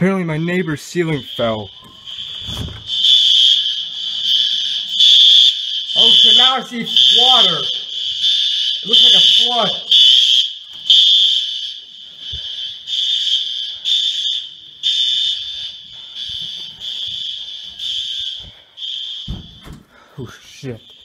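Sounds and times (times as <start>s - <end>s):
fire alarm pulsing tone: 0.0s - 21.0s.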